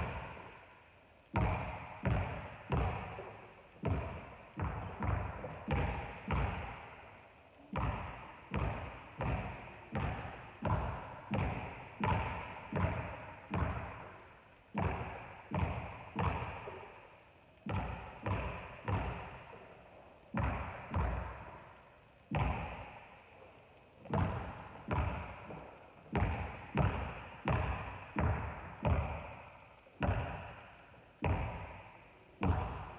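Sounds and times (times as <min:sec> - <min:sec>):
basketball bouncing on hardwood floor: 0:00.0 - 0:00.4, 0:01.3 - 0:07.0, 0:07.8 - 0:16.9, 0:17.7 - 0:19.5, 0:20.3 - 0:21.7, 0:22.3 - 0:23.0, 0:24.0 - 0:32.9.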